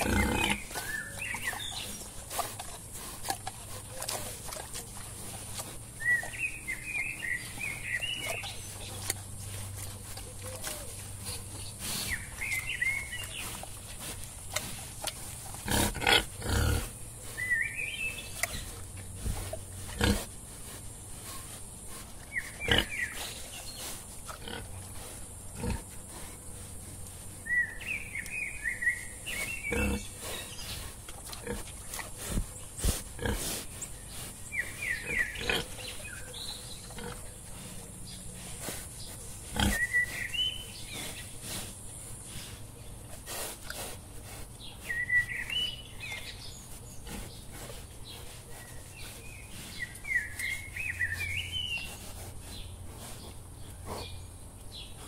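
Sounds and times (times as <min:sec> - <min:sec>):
wild boars grunting and snuffling: 0:00.0 - 0:55.0.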